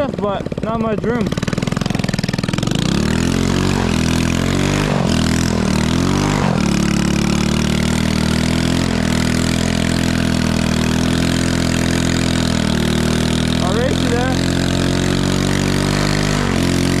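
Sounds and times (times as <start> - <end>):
engine under throttle: 0.0 - 17.0.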